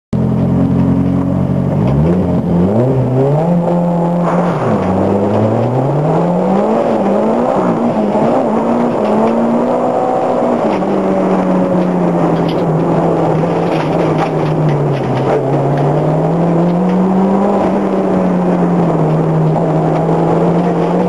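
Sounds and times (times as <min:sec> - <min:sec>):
car engine accelerating: 0:00.2 - 0:21.0.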